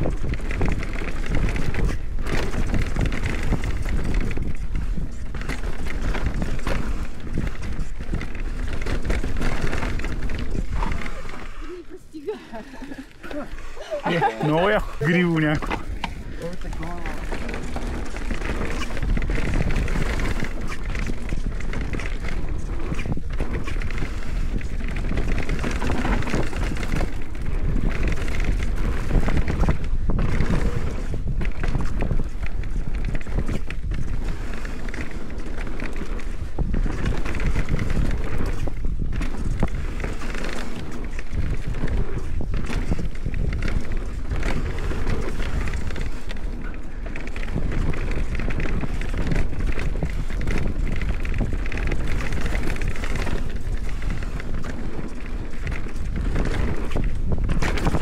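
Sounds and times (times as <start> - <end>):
bike tyres rumbling on dirt: 0.0 - 12.1, 12.7 - 58.0
wind rushing over microphone: 0.0 - 58.0.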